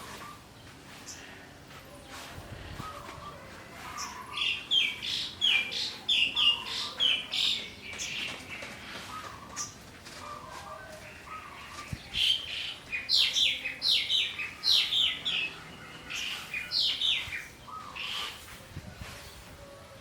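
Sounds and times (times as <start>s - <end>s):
small birds chirping: 0.0s - 19.8s.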